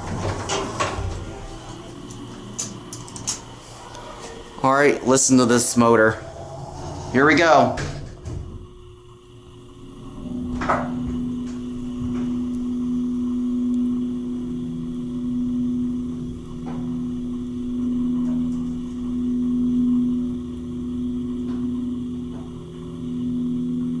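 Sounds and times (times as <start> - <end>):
elevator pump motor hum: 0.0 - 24.0.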